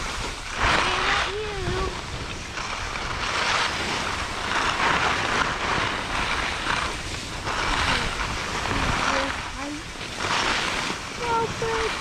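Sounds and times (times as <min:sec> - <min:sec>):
skis scraping over snow: 0:00.0 - 0:12.0
wind noise on microphone: 0:00.0 - 0:12.0.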